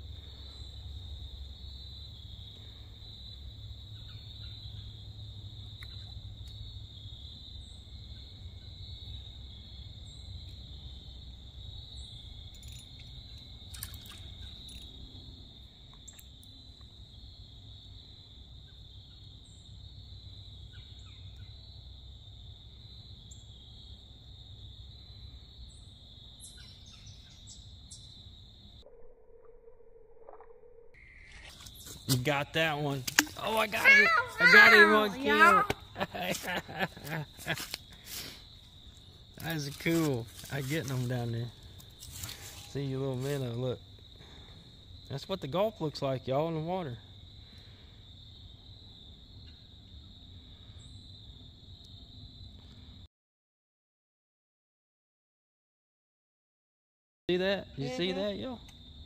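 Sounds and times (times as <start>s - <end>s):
trilling insects chorus: 0.0s - 53.1s, 57.3s - 59.0s.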